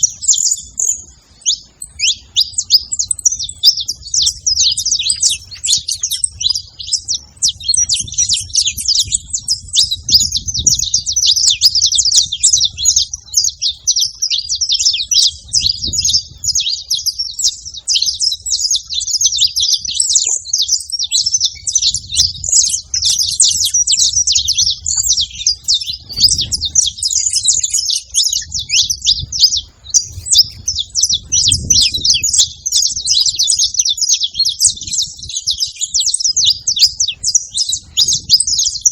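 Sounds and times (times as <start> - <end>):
finches chirping and singing: 0.0 - 38.9.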